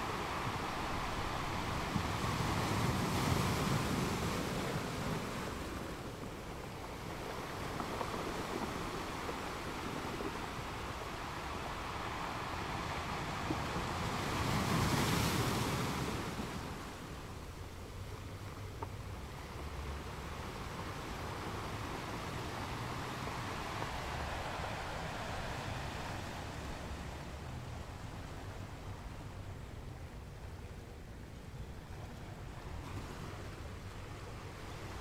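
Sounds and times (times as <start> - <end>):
sea surf rushing: 0.0 - 35.0.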